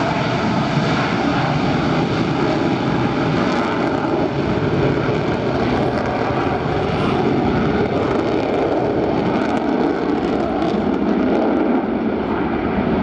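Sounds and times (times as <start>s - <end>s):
faint engine whine: 0.0s - 13.0s
jet engines running: 0.0s - 13.0s.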